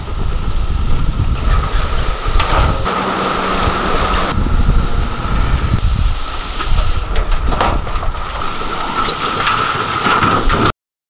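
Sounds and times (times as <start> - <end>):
steady high whine: 0.0 - 10.2
diesel engine rumble: 0.0 - 10.7
soil sliding out: 0.1 - 10.7.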